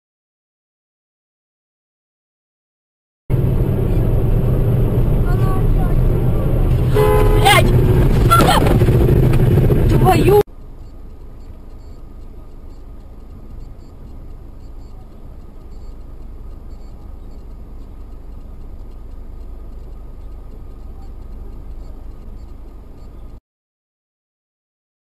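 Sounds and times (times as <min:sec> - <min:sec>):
car road and engine rumble: 0:03.3 - 0:23.4.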